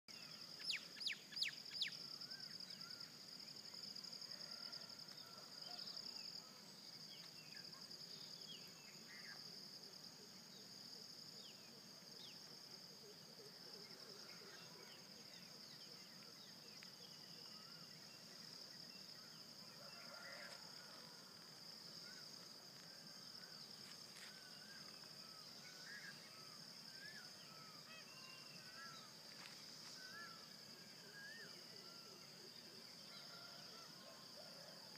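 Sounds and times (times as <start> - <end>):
insect chorus trilling: 0.1 - 34.9.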